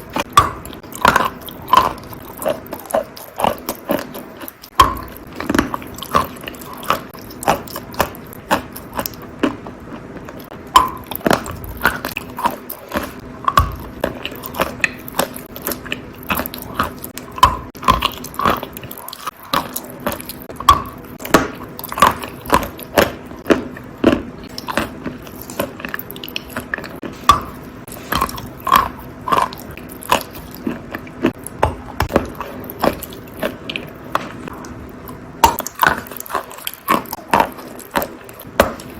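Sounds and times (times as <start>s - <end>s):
wet crunching chewing: 0.0s - 38.9s.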